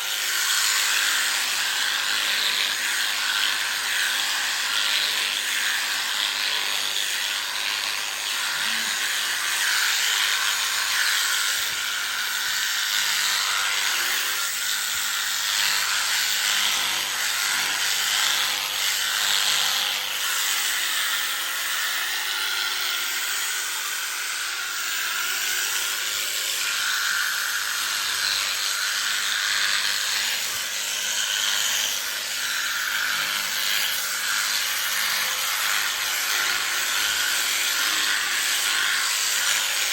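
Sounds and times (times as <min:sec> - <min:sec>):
electric shearing clippers running: 0:00.0 - 0:39.9.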